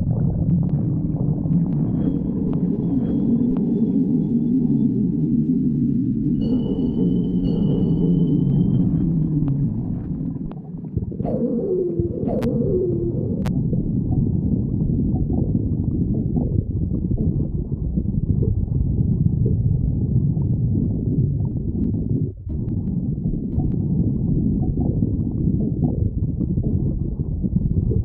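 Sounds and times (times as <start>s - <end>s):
stomach growling: 0.0s - 28.0s.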